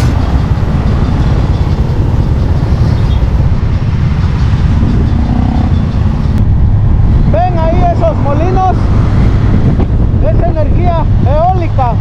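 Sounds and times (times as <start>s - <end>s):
motorcycle running: 0.0s - 12.0s
wind buffeting microphone: 0.0s - 12.0s.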